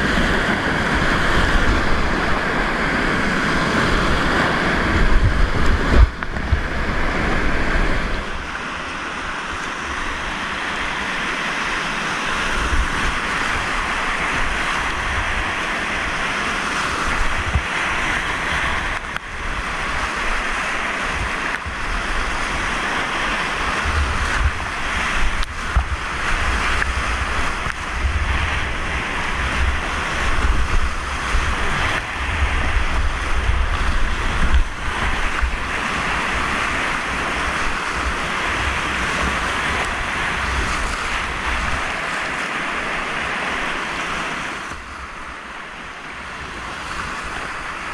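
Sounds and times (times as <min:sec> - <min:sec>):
water splashing over kayak: 0:00.0 - 0:47.9
whitewater rapids rushing: 0:00.0 - 0:47.9
wind buffeting microphone: 0:00.0 - 0:47.9.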